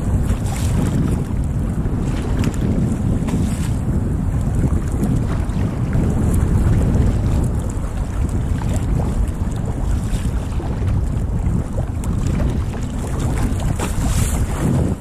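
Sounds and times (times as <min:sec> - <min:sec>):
water sloshing around kayak: 0:00.0 - 0:15.0
wind buffeting microphone: 0:00.0 - 0:15.0.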